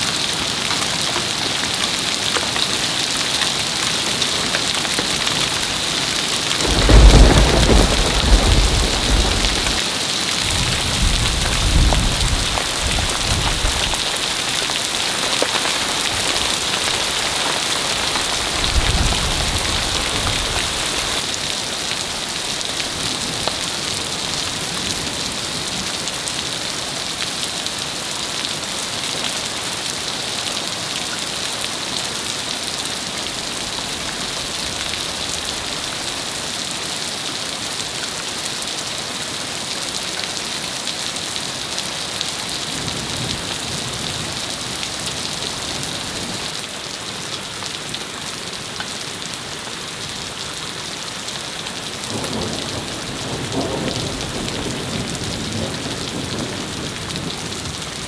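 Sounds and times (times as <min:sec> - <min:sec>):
hail and heavy rain: 0:00.0 - 0:58.0.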